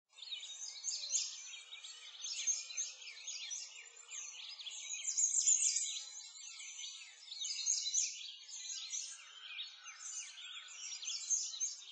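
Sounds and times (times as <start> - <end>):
songbirds chirping and singing: 0.1 - 11.9.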